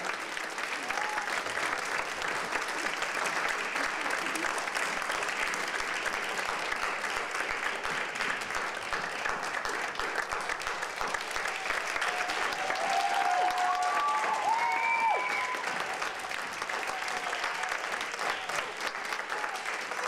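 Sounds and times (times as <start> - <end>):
people cheering: 0.0 - 7.7, 10.5 - 20.0
audience applauding: 0.0 - 20.0.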